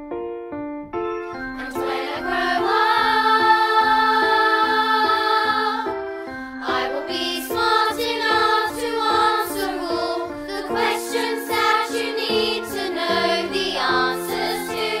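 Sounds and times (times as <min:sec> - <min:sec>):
musical backing track: 0:00.0 - 0:15.0
young people singing in chorus: 0:01.6 - 0:06.0, 0:06.6 - 0:15.0.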